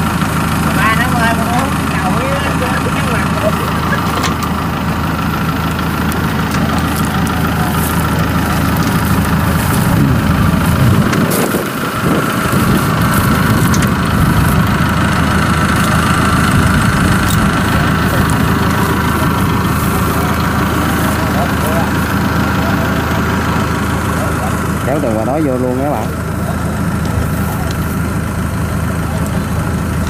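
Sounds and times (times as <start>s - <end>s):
farm machine engine idling: 0.0s - 30.0s.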